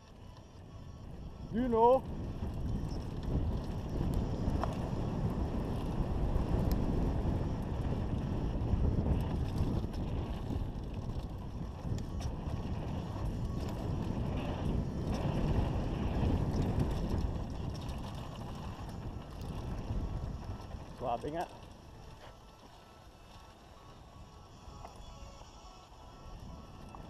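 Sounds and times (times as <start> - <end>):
bike clicks and rattles: 0.0 - 24.1, 26.2 - 27.0
bike tyres rumbling on dirt: 0.0 - 25.0
wind on microphone: 0.0 - 27.0.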